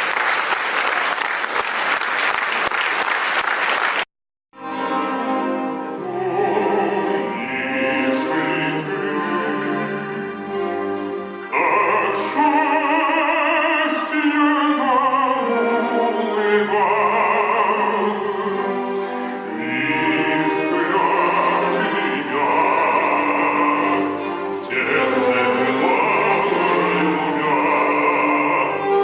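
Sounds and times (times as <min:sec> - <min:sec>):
orchestral accompaniment: 0:04.6 - 0:29.0
operatic singing with vibrato: 0:05.2 - 0:29.0.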